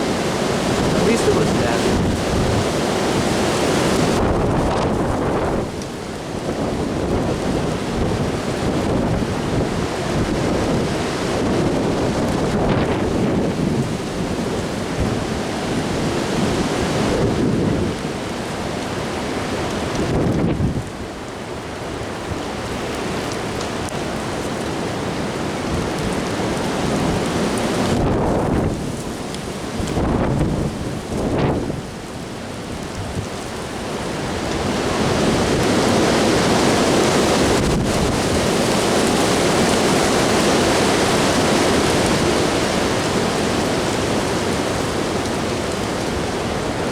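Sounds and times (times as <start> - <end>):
gusting wind buffeting microphone: 0.0 - 21.1, 22.0 - 46.9.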